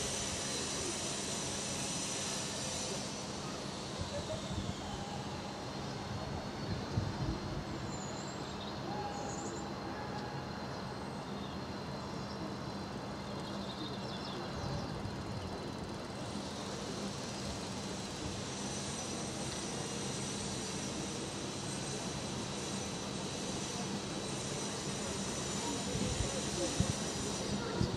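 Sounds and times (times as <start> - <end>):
harbourside background noise: 0.0 - 27.9
loud high steam hiss: 0.0 - 27.9
steam locomotive hissing: 0.0 - 27.9.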